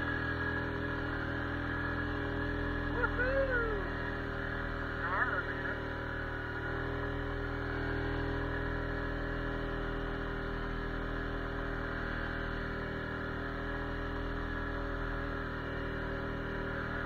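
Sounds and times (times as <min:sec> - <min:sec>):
atv engine running steadily: 0:00.0 - 0:17.0.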